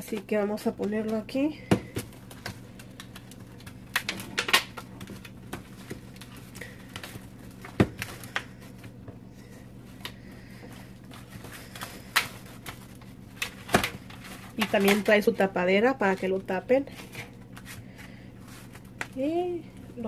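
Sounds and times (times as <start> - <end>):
faint steady hum: 0.0 - 20.0
plastic packaging crinkling: 0.0 - 20.0.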